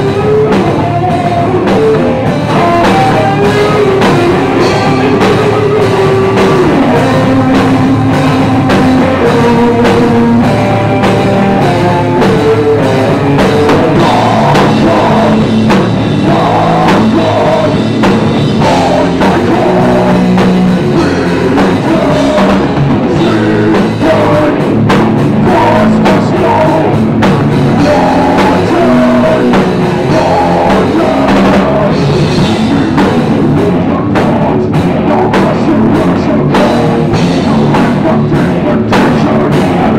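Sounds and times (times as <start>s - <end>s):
bass guitar: 0.0s - 39.9s
drum kit: 0.0s - 39.9s
electric guitar riffing: 0.0s - 39.9s
person singing: 0.0s - 39.9s.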